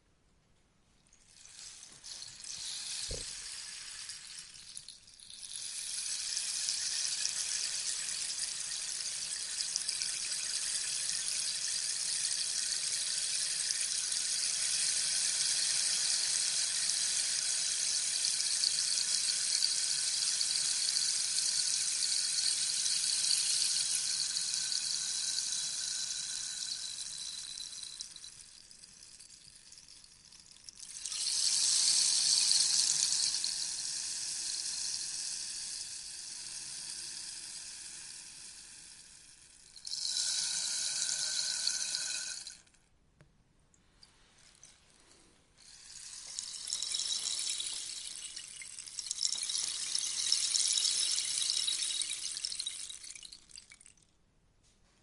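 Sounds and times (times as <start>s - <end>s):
rainstick pellets trickling: 1.1s - 42.8s, 43.8s - 54.1s.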